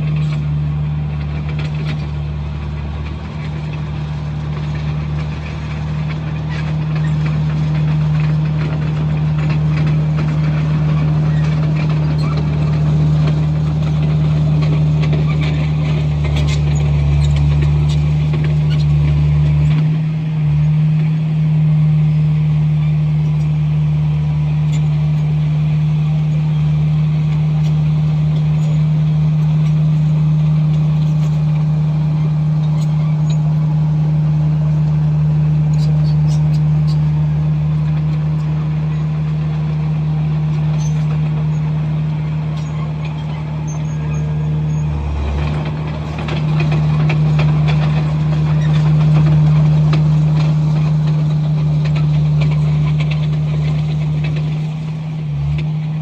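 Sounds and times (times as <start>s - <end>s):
bulldozer diesel engine running: 0.0s - 56.0s
engine clatter: 0.0s - 56.0s.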